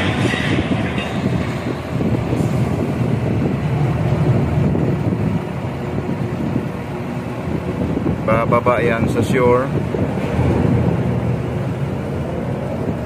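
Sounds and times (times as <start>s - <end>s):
crane rumbling: 0.0s - 13.0s
wind buffeting microphone: 0.0s - 13.0s.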